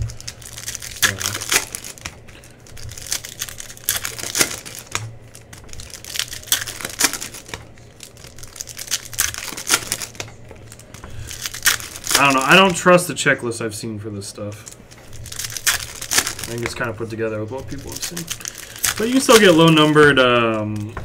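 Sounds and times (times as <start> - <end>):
foil wrappers crinkling and tearing: 0.0 - 21.0.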